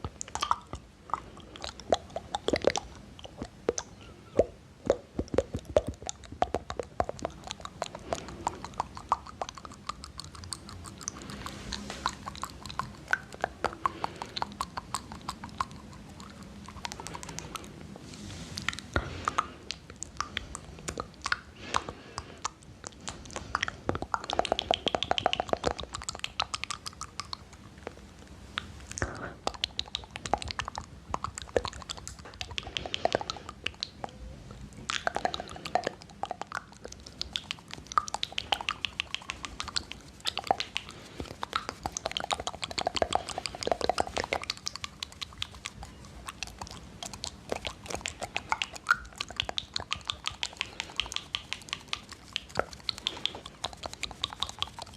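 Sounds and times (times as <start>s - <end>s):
wet mouth clicks and lip pops: 0.0s - 54.9s.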